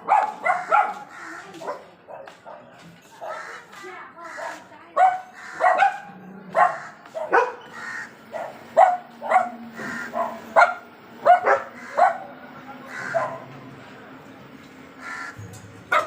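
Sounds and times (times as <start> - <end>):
dogs barking: 0.0 - 13.7, 15.0 - 16.0.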